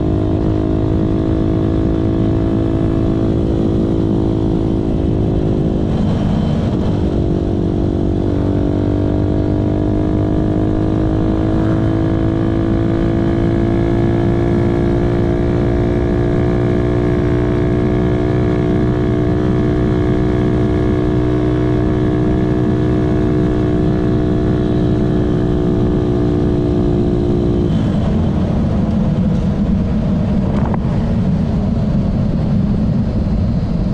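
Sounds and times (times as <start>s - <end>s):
motorcycle engine running: 0.0s - 33.9s
wind rumble: 0.0s - 33.9s.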